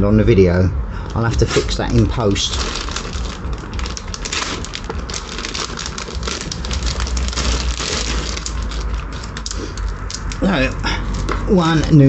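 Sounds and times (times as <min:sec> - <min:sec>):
low steady rumble: 0:00.0 - 0:12.0
chain and packaging rustling: 0:01.1 - 0:11.4.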